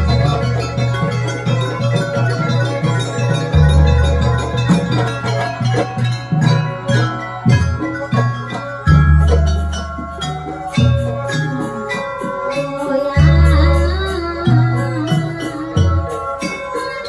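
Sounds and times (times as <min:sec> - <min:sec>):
drums: 0:00.0 - 0:17.0
metal mallet instruments melody: 0:00.0 - 0:17.0.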